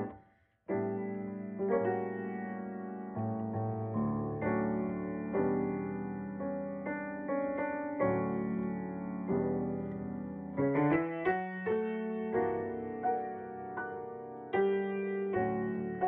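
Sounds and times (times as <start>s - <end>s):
solo piano ballad: 0.0s - 16.0s.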